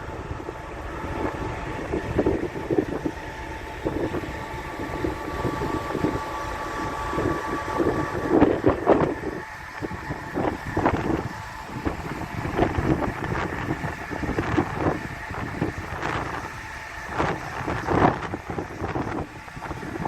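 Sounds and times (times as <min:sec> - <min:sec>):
faint steady hum: 0:00.0 - 0:20.0
wind: 0:00.0 - 0:20.0.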